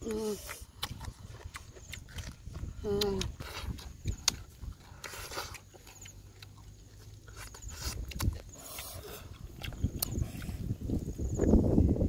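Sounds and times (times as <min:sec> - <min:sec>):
chewing and lip smacks: 0:00.3 - 0:11.6.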